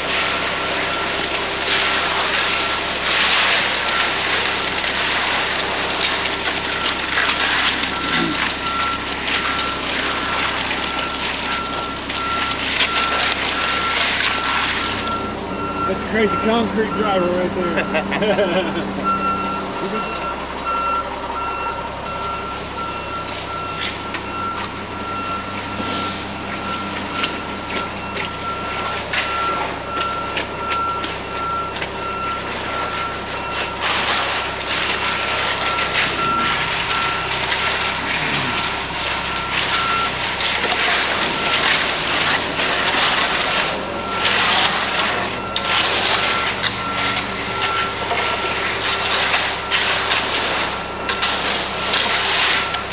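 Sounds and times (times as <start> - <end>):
diesel engine running: 0.0 - 52.9
reverse alarm beeping: 6.6 - 52.9.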